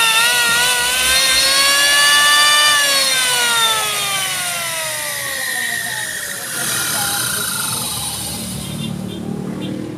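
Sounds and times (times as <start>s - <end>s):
electric planer whining: 0.0s - 8.6s.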